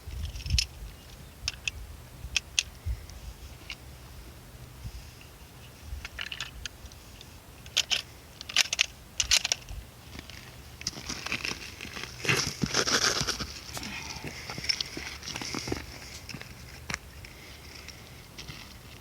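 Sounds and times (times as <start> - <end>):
crackling rustle: 2.4 - 19.0.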